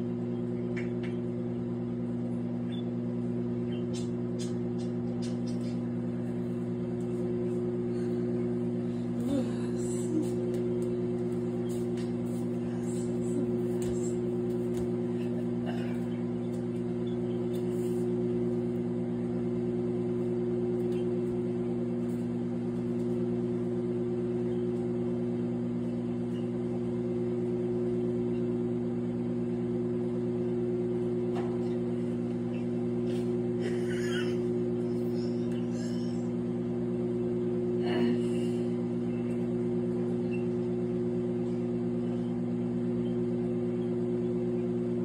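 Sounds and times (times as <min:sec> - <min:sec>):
microwave oven humming: 0:00.0 - 0:45.0.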